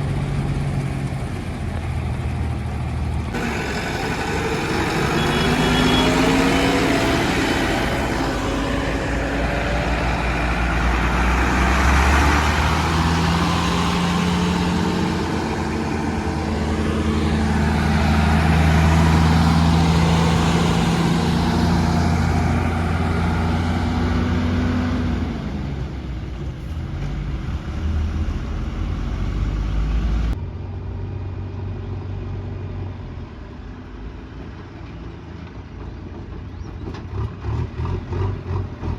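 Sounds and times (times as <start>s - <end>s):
heavy diesel engine under load: 0.0s - 38.9s.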